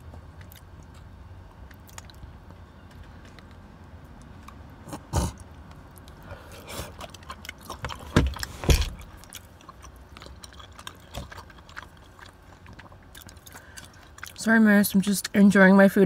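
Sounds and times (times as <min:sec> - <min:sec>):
chewing: 0:00.0 - 0:14.7.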